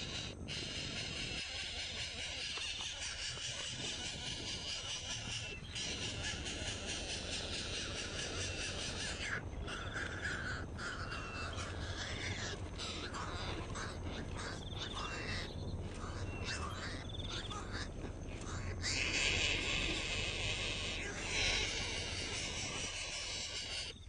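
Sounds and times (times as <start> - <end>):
harsh bird calls: 0.0 - 24.0
steady background hiss: 0.0 - 24.0.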